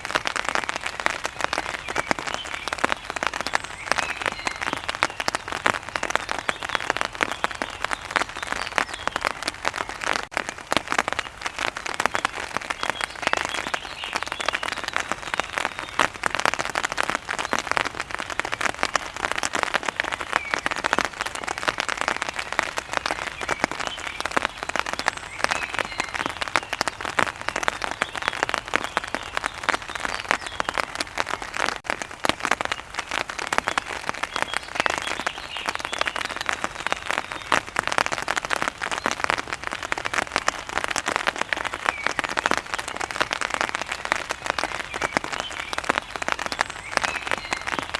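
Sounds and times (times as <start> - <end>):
heavy rain on hard surface: 0.0 - 47.9.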